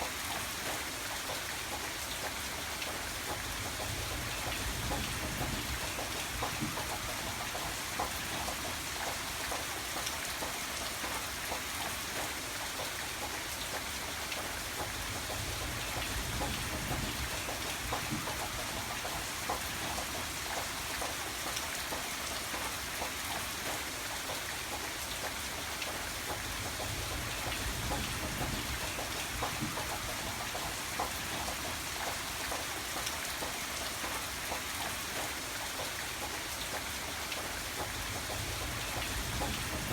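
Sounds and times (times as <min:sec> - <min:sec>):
raindrops ticking on a surface: 0:00.0 - 0:39.9
steady rain falling: 0:00.0 - 0:39.9.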